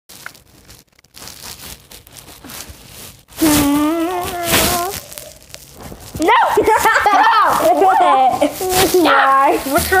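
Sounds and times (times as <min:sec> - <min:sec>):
handling noise rustling: 0:00.1 - 0:10.0.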